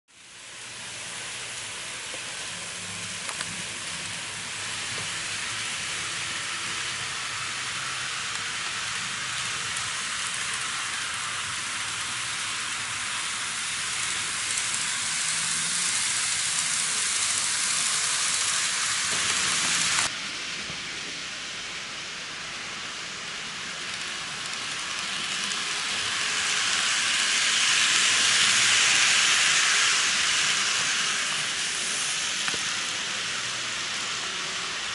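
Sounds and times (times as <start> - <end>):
model train wheels on rails: 0.1 - 34.9
faint motor hum: 0.2 - 34.9.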